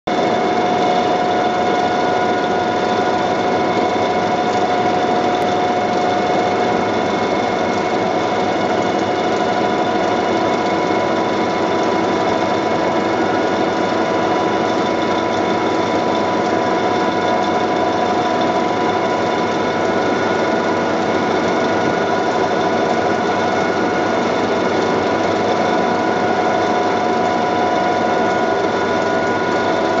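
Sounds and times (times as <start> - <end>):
grinder machine humming and whining: 0.1 - 30.0.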